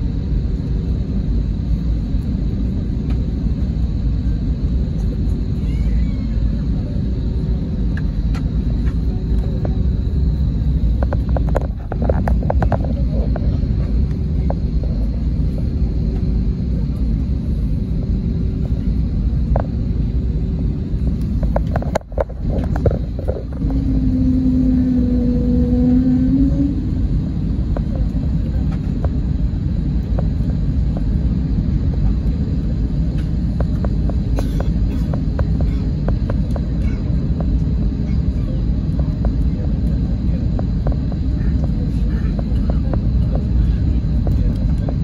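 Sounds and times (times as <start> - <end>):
jet engines and wheels rumbling: 0.0 - 45.0
low droning tone: 0.0 - 45.0.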